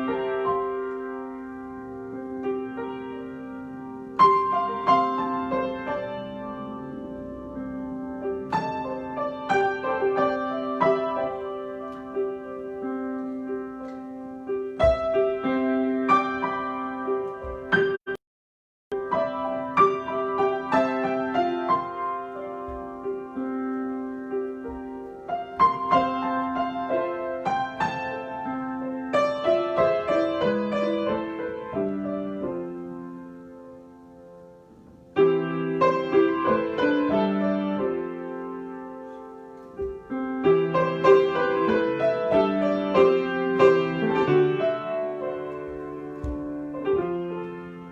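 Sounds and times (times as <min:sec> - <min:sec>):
solo piano improvisation: 0:00.0 - 0:18.2, 0:18.9 - 0:47.9.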